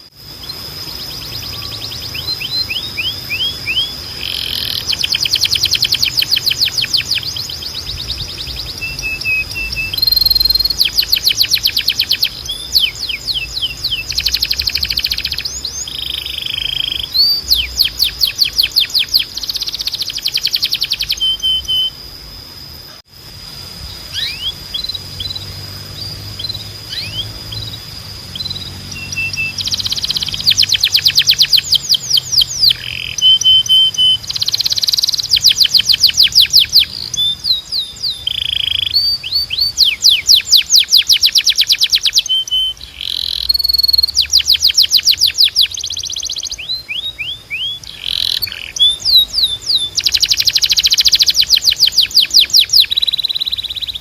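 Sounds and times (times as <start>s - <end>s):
canary singing trills: 0.0s - 23.1s, 23.7s - 54.0s.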